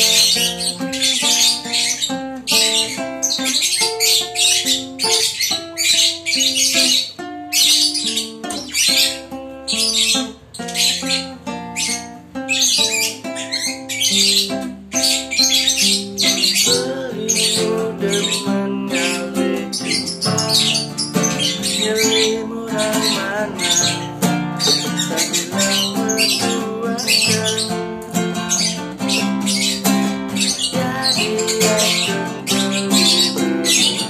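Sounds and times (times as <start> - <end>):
acoustic guitar: 0.0 - 34.0
lovebird squawking and chirping: 0.0 - 34.0.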